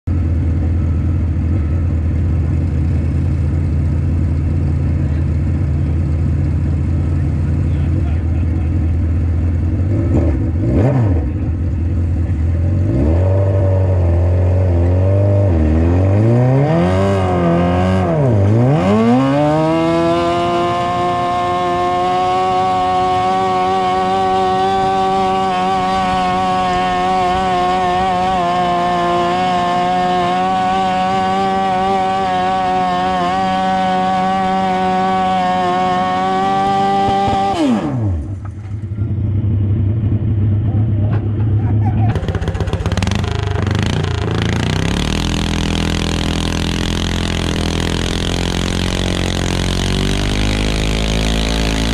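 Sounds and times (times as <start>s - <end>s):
tractor engine revving: 0.1s - 51.9s.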